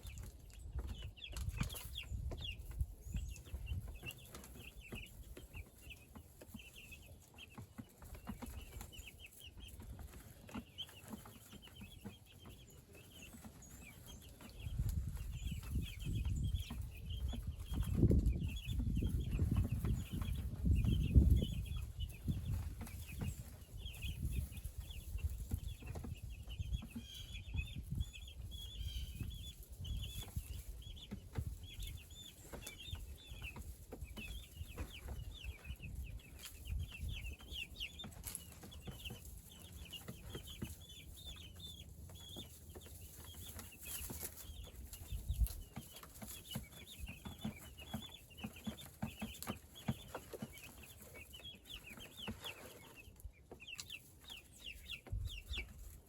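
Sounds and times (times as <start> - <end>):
chicks cheeping: 0.0 - 56.0.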